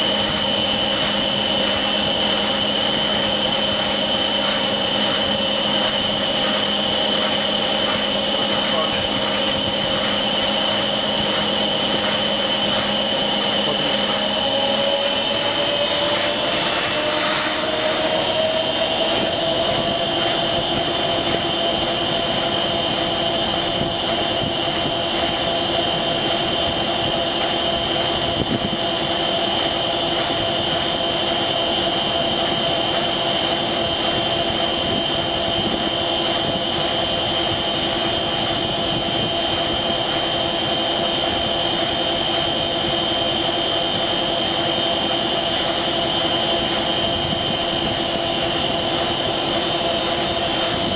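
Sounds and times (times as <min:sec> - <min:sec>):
heavy machine whining under load: 0:00.0 - 0:50.9.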